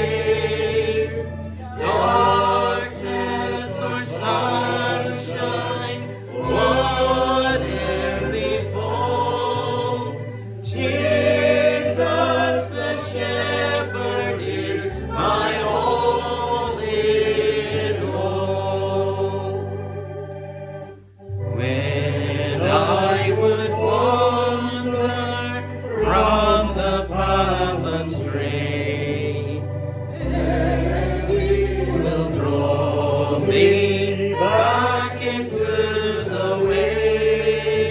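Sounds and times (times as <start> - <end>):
congregation singing a hymn: 0.0 - 37.9
low instrumental bass notes: 0.0 - 37.9.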